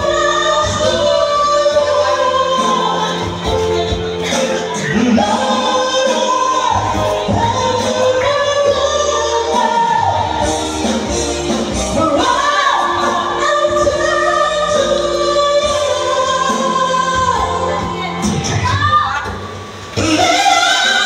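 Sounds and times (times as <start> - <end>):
person singing into a microphone: 0.0 - 19.3, 19.9 - 21.0
backing music: 0.0 - 21.0.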